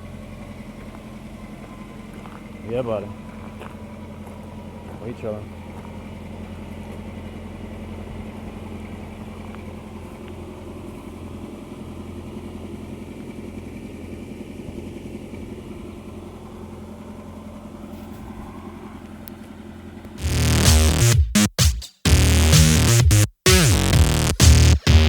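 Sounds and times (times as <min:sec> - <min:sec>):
car engine idling: 0:00.0 - 0:21.2, 0:22.1 - 0:25.0.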